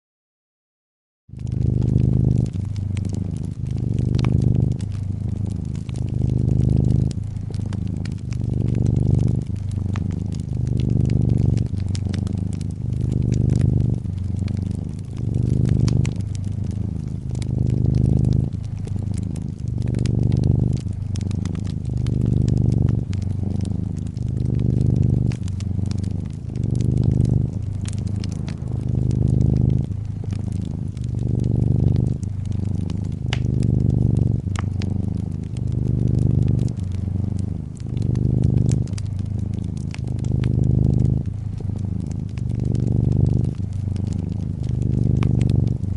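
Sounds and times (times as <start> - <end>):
cat purring: 1.3 - 45.9
wood fire crackling: 1.3 - 45.9.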